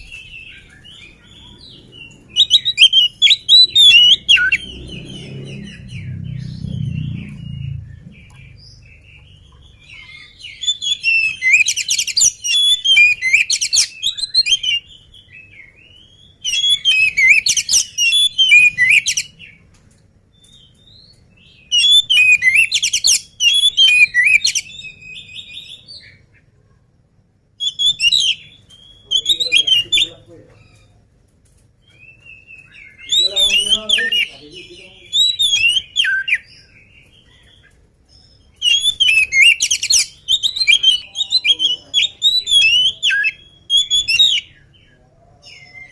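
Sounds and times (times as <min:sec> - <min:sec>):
bird singing whistled notes: 0:00.0 - 0:19.6, 0:20.3 - 0:26.2, 0:27.6 - 0:30.9, 0:31.8 - 0:45.9.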